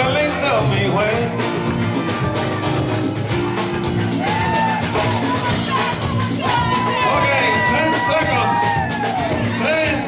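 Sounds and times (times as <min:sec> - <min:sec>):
live dance band playing: 0:00.0 - 0:10.0
steady drum beat: 0:00.0 - 0:10.0.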